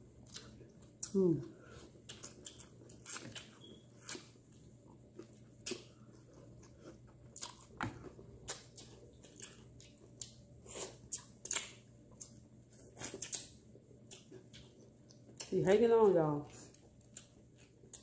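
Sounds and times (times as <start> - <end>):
chewing and crunching: 0.1 - 15.6, 16.5 - 18.0.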